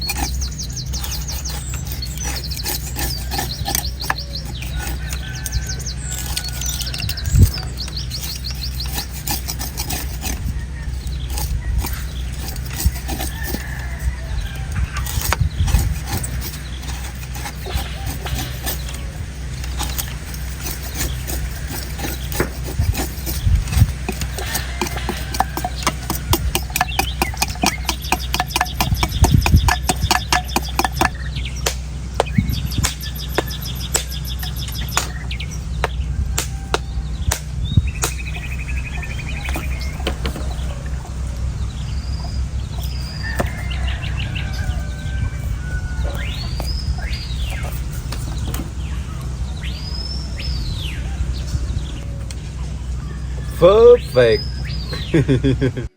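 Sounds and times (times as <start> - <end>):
knife cutting coconut husk: 0.0 - 49.3
birds chirping: 0.0 - 55.9.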